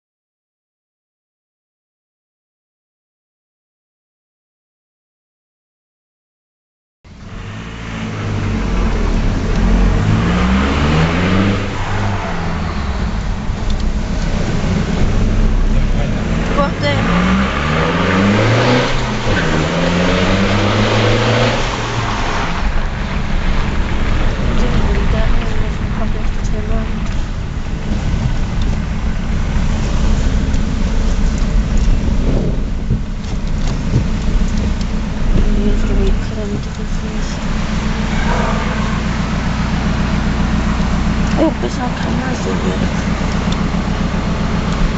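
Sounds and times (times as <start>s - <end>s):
diesel engine revving: 7.1s - 44.9s.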